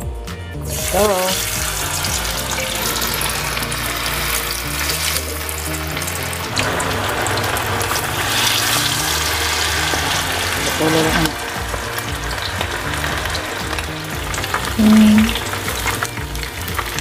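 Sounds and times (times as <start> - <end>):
oil sizzling in deep fryer: 0.7 - 17.0.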